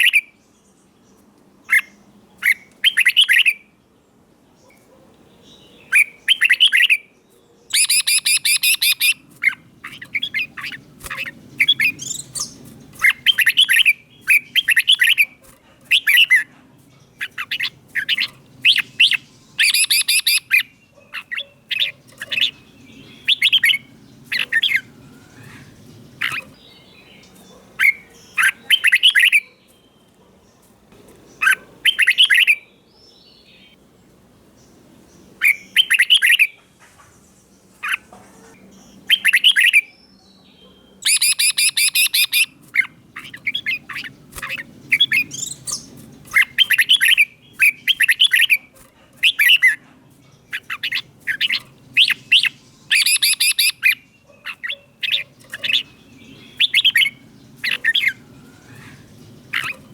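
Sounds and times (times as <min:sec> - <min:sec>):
bulbul singing: 0:00.0 - 0:03.7, 0:04.6 - 0:33.8, 0:34.5 - 0:36.7, 0:37.4 - 0:59.9.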